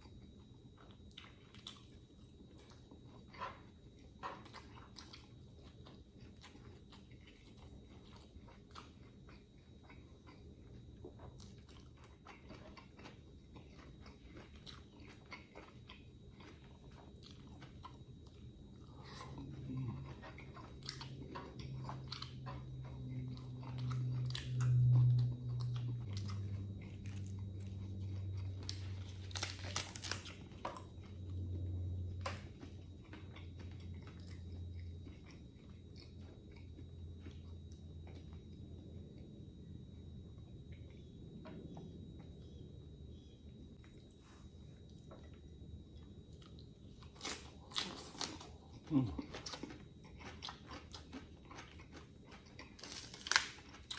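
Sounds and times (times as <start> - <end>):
low steady hum: 0.0 - 53.9
person chewing crunchy food: 0.0 - 53.9.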